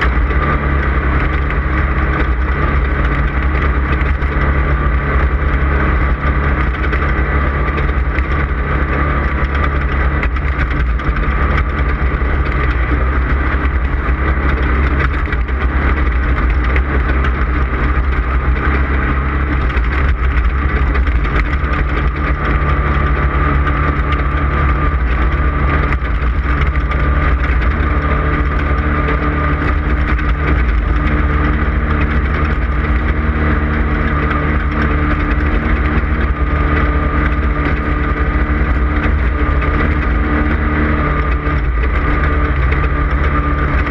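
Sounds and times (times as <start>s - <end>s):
race vehicle engine running hard: 0.0s - 43.9s.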